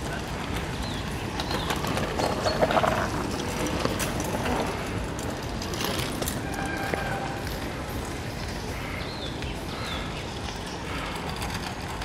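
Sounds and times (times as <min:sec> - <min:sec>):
scooter rolling on asphalt: 0:00.0 - 0:12.0.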